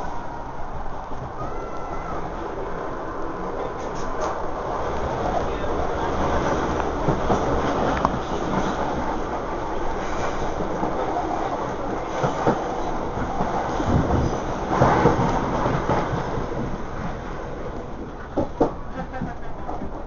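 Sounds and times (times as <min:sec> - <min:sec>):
train carriages rumbling: 0:00.0 - 0:20.0
wheels clattering over rail joints: 0:03.6 - 0:20.0.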